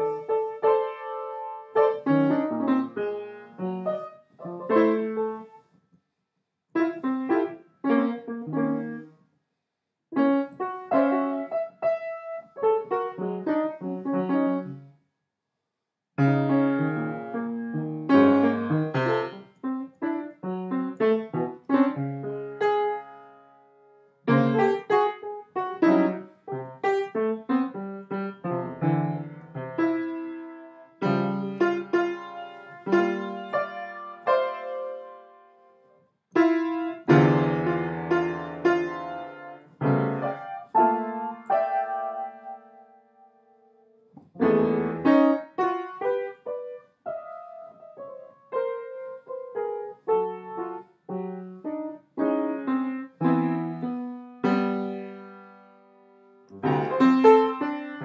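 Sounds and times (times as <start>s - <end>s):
piano playing: 0.0s - 5.7s, 6.8s - 9.1s, 10.2s - 14.8s, 16.2s - 35.7s, 36.3s - 58.0s.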